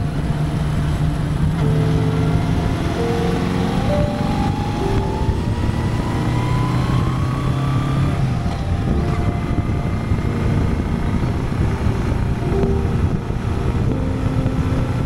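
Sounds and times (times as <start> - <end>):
motorcycle engine drone: 0.0 - 15.0
road and wind noise: 0.0 - 15.0.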